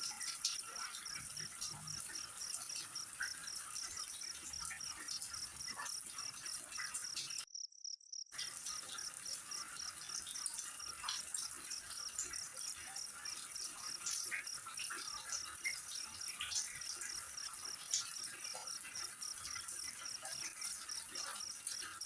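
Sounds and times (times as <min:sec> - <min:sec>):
insect chirping: 0:00.2 - 0:22.0.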